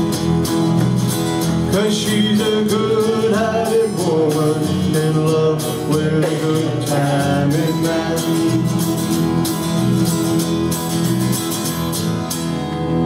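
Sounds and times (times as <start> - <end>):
live country band playing: 0.0 - 13.0.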